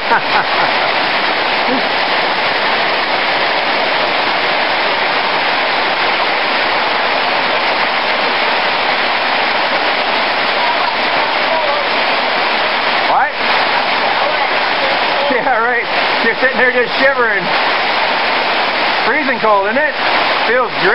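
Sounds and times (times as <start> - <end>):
heavy rain pouring: 0.0 - 20.9.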